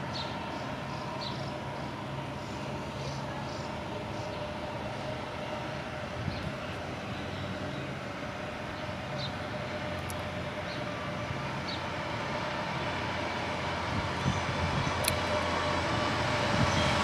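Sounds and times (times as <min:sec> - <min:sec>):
fire truck diesel engine: 0:00.0 - 0:17.0.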